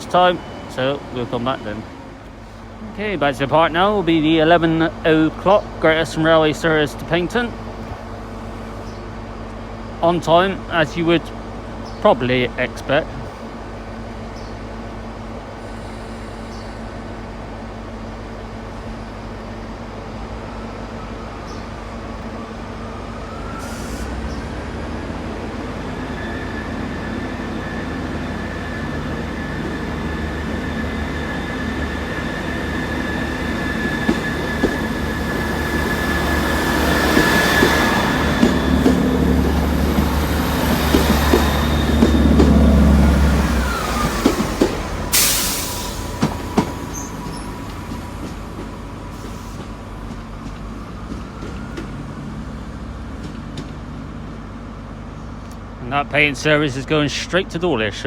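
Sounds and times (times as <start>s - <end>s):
train engine rumble: 0.0s - 58.0s.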